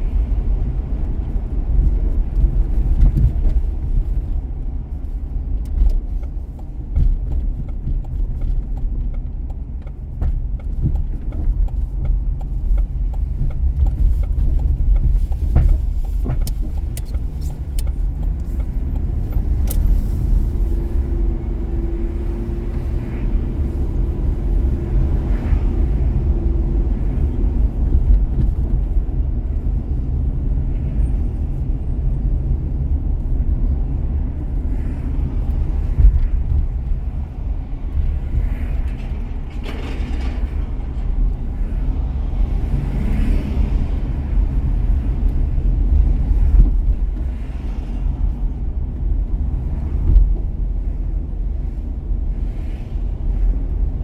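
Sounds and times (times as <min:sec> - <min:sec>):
passing traffic swishes: 0:00.0 - 0:54.0
road and engine rumble: 0:00.0 - 0:54.0.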